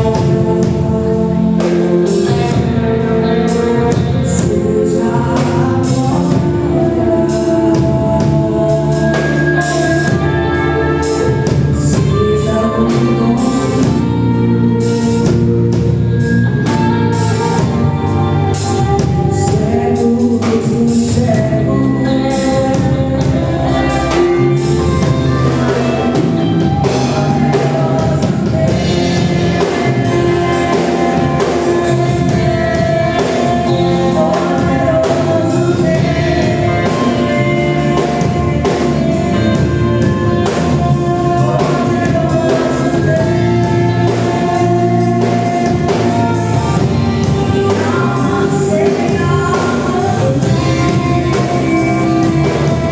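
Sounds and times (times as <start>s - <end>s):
band with drum kit: 0.0s - 52.9s
voices singing worship music: 0.0s - 52.9s.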